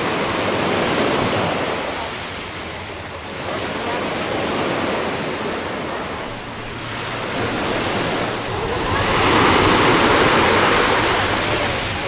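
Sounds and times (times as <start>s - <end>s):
waves washing onto sandy beach: 0.0s - 12.0s.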